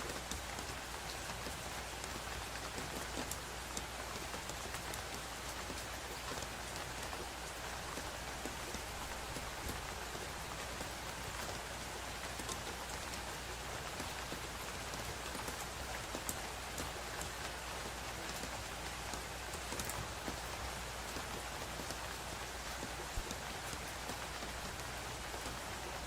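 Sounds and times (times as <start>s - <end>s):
rain pattering on a surface: 0.0s - 26.0s.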